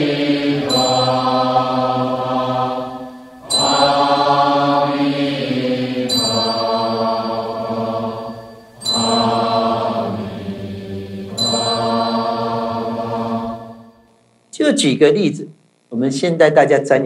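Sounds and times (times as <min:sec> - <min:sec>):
devotional chanting with music: 0:00.0 - 0:14.1.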